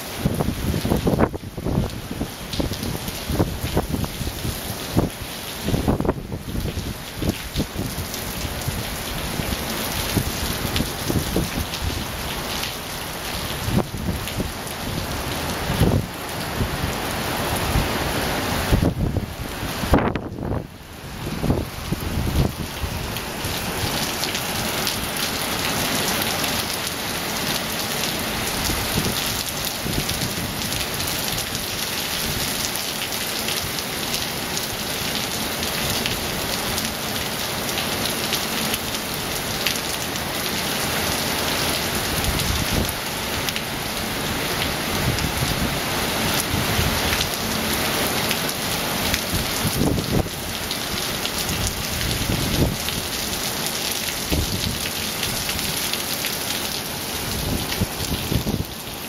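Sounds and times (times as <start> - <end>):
heavy rain on paving: 0.0 - 59.0.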